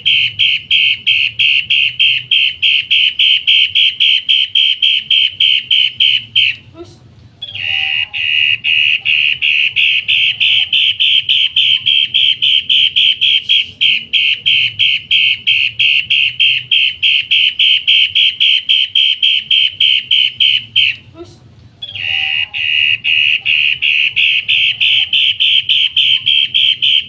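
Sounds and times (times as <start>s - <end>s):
bird calling harsh notes: 0.0s - 6.6s, 7.4s - 21.0s, 21.8s - 27.0s.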